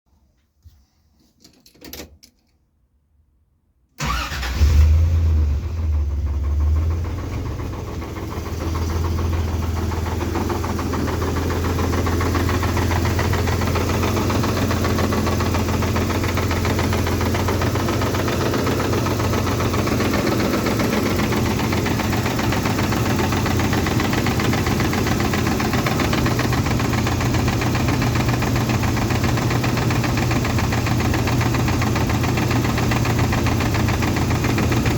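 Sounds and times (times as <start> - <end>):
car engine starting and idling: 4.0 - 34.9
engine knock: 6.0 - 34.9.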